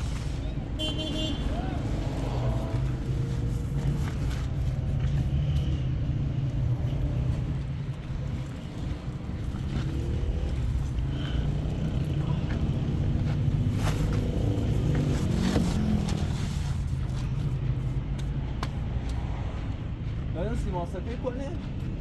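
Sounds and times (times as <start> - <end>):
road noise: 0.0 - 22.0
vehicle engine rumble: 0.0 - 22.0.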